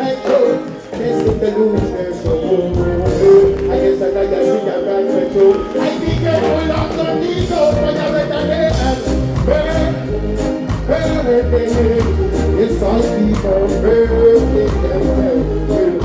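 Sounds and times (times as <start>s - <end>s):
live reggae music: 0.0s - 16.0s
man singing: 0.0s - 16.0s.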